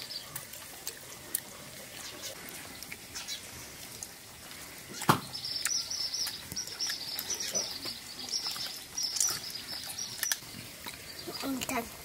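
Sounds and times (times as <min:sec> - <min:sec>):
birds chirping: 0:00.0 - 0:00.5, 0:01.1 - 0:12.0
chewing and lip-smacking: 0:00.2 - 0:11.8.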